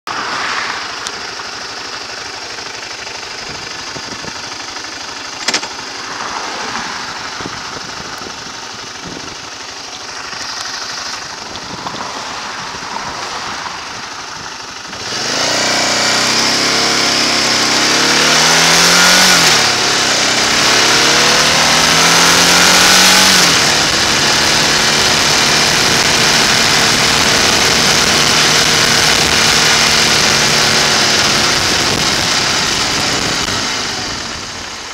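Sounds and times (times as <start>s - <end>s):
motorcycle engine accelerating: 0.1s - 34.9s
wind and road noise: 0.1s - 34.9s.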